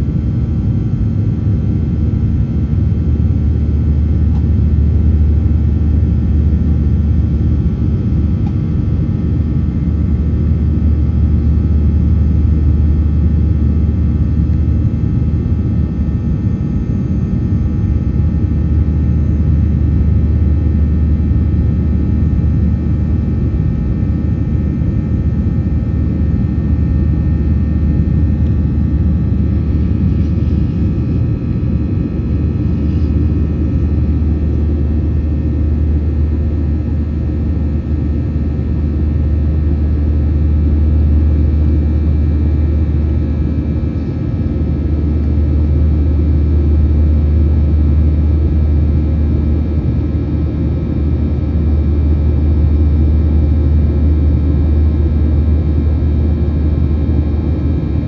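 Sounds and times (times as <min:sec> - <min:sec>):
jet engines droning and whining: 0:00.0 - 0:58.0.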